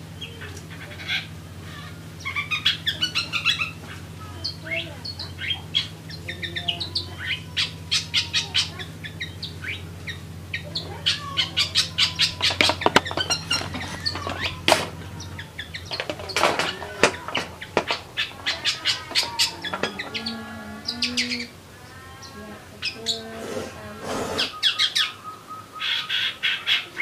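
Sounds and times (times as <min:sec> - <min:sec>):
bird chirping song: 0:00.0 - 0:27.0
faint low hum: 0:00.0 - 0:27.0.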